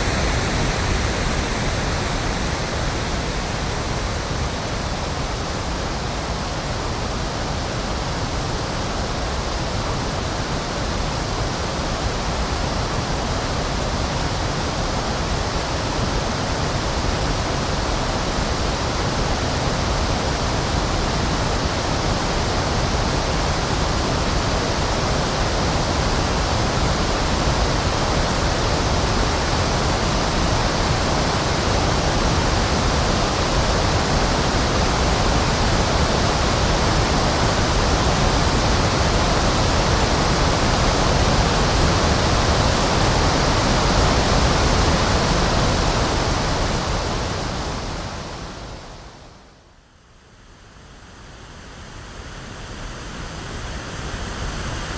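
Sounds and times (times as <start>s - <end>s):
pink noise static: 0.0s - 49.8s.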